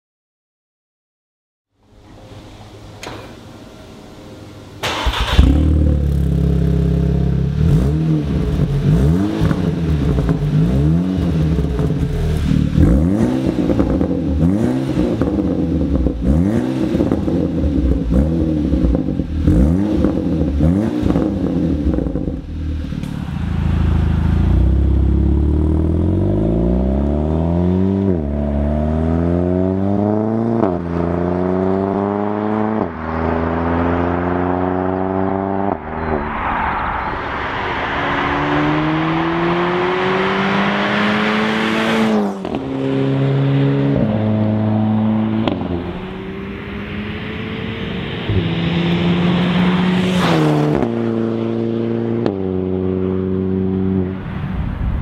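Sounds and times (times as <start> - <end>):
car engine revving: 4.7 - 54.4.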